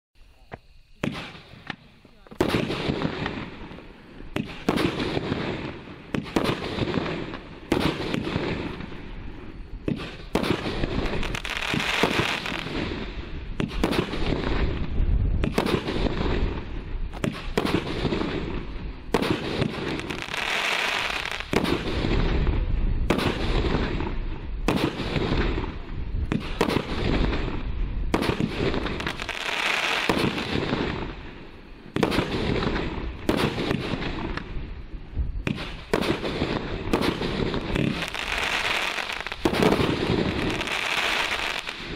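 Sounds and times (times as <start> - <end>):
crackling sparks: 0.3 - 41.9
firework shots launching: 1.0 - 34.6, 35.4 - 41.9.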